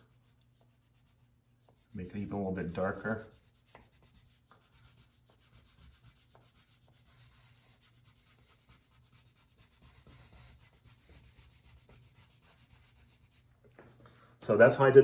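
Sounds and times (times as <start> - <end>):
crayon rubbing on paper: 0.0 - 13.5.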